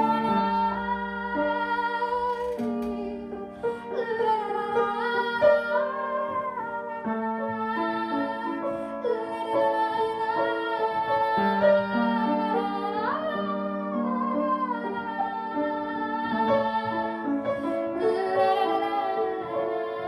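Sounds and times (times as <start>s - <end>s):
piano and cello playing: 0.0s - 20.0s.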